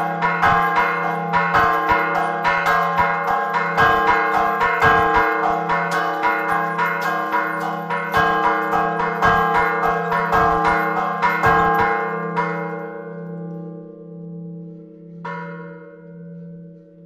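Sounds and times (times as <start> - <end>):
church bells ringing rapidly: 0.0 - 17.0.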